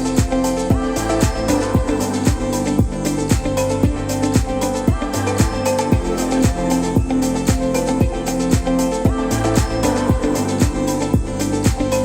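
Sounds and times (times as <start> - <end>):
electronic pop music: 0.0 - 12.0
kick drum: 0.2 - 11.9.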